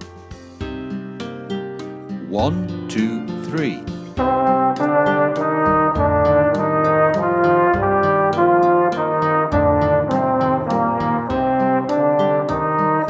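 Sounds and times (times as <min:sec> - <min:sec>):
brass instrument slow melody: 0:02.2 - 0:13.0.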